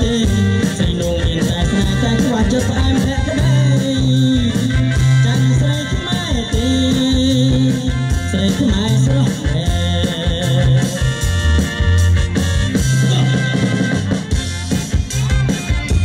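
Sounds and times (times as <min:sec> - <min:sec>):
man singing amplified: 0:00.0 - 0:14.4
drums: 0:00.0 - 0:16.0
electric bass guitar: 0:00.0 - 0:16.0
keyboard: 0:00.0 - 0:16.0.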